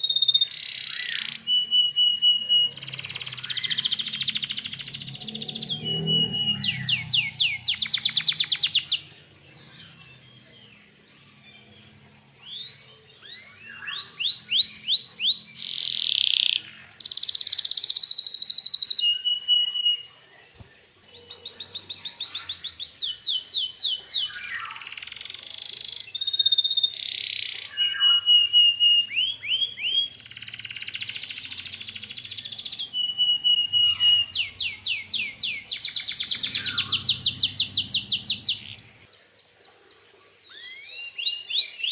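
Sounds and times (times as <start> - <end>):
canary singing trills: 0.0 - 20.3, 21.0 - 39.5.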